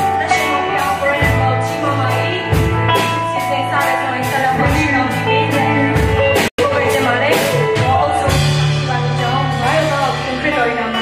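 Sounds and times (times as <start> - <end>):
steady drum beat: 0.0 - 10.9
sung vocals: 0.0 - 11.0
worship band playing: 0.0 - 11.0.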